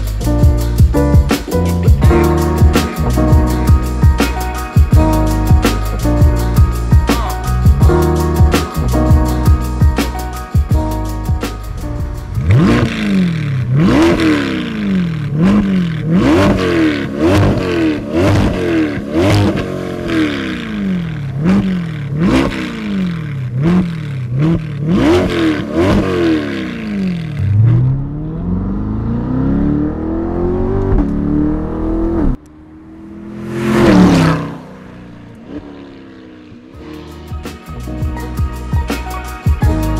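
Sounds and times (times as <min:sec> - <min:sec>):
car engine revving: 0:00.0 - 0:38.6.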